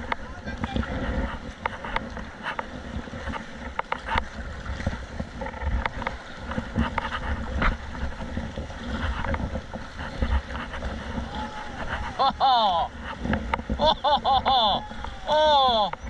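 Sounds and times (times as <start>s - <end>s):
water splashing around a kayak: 0.0s - 16.0s
wind buffeting microphone: 0.0s - 16.0s.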